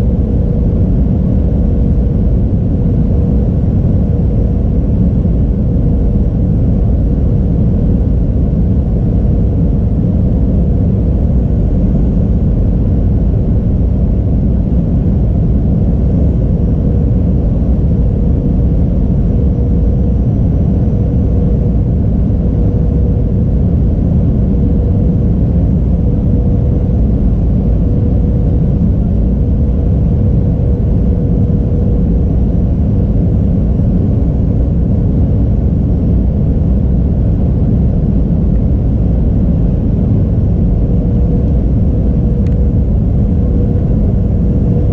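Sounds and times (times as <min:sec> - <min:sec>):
constant hum: 0:00.0 - 0:44.9
jet engine and airflow rumble: 0:00.0 - 0:44.9.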